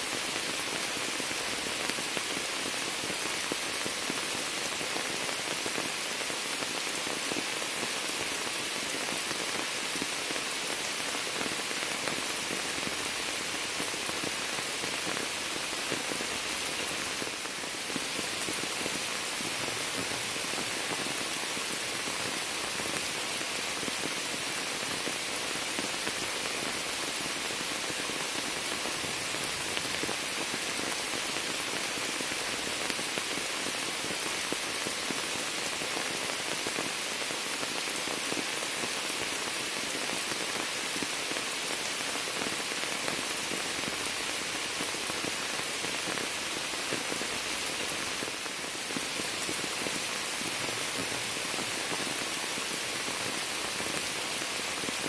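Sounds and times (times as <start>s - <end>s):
rain falling on water and leaves: 0.0s - 55.0s.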